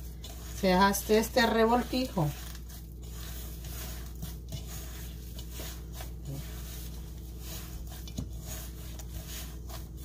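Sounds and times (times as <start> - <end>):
hand kneading wet dough: 0.0 - 10.0
steady low hum: 0.0 - 10.0.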